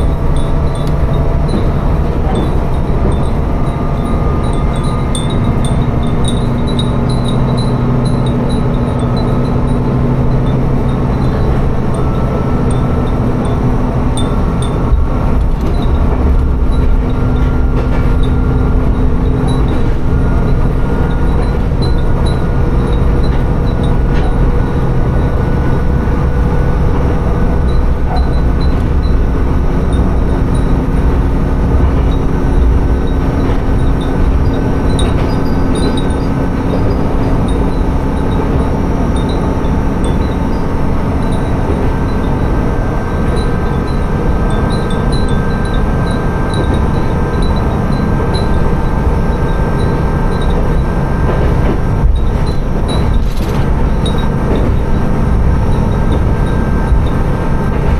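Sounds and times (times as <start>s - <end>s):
wind chimes tinkling: 0.0s - 51.0s
diesel railcar engine drone: 0.0s - 57.9s
wheels rumbling on rails: 0.0s - 57.9s.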